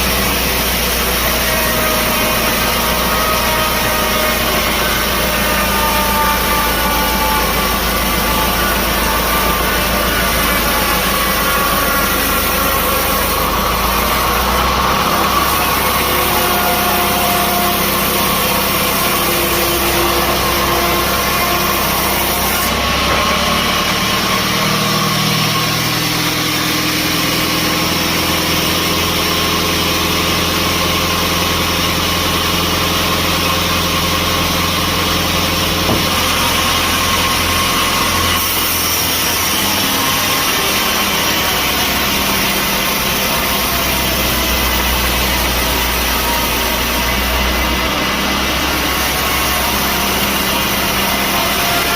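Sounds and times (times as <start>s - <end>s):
sawmill machinery humming: 0.0s - 51.9s.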